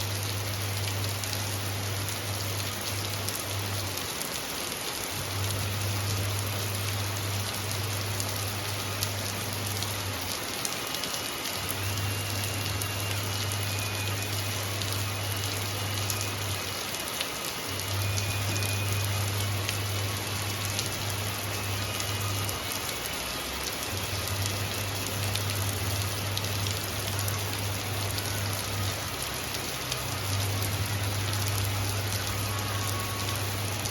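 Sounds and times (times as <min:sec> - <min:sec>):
rain pattering on surfaces: 0:00.0 - 0:33.9.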